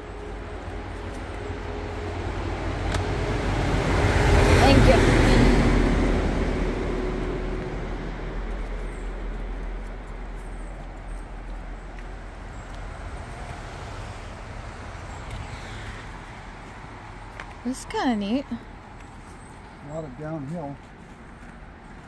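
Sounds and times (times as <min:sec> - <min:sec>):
passing vehicle road noise: 0:00.0 - 0:22.0
traffic hum: 0:00.0 - 0:22.0.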